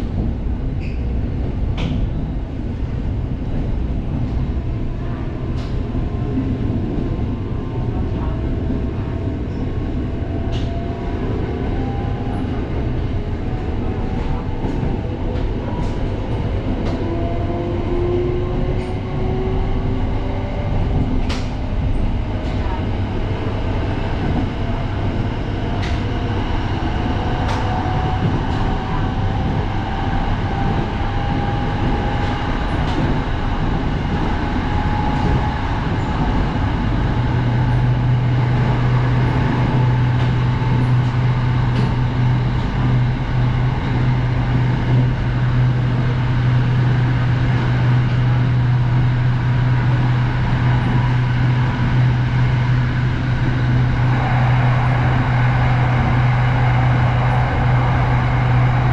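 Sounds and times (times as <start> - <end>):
train low hum: 0.0 - 58.9.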